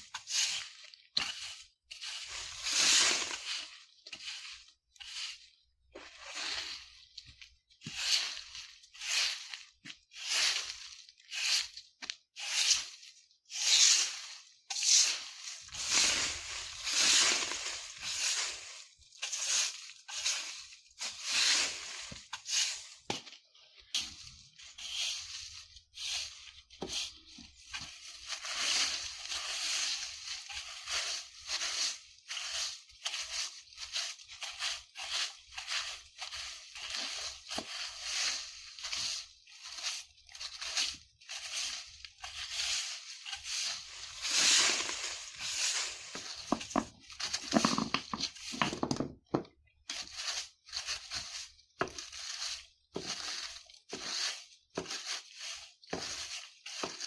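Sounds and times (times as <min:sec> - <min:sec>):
broom sweeping dry leaves: 0:00.0 - 0:48.8, 0:49.8 - 0:57.0.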